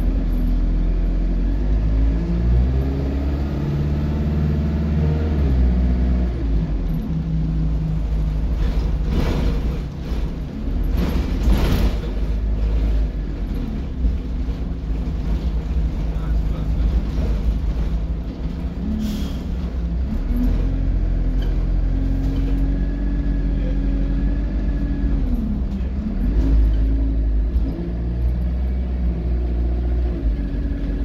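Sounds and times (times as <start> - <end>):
bus engine and gearbox: 0.0 - 31.0.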